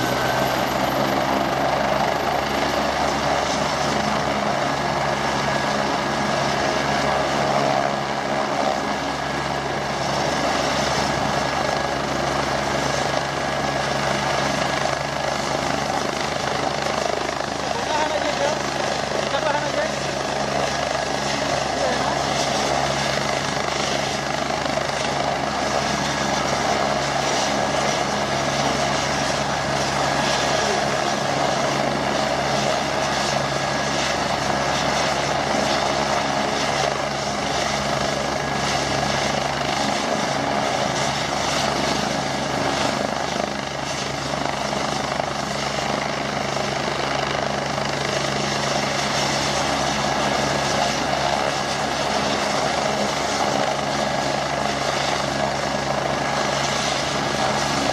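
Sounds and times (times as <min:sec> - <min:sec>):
helicopter turbine whine: 0:00.0 - 0:57.9.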